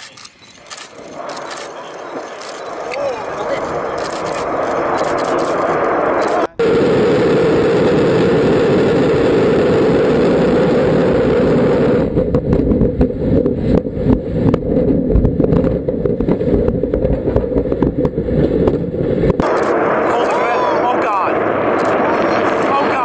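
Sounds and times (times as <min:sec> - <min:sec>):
rocket engine roar: 0:00.6 - 0:23.0
rocket exploding: 0:00.8 - 0:23.0.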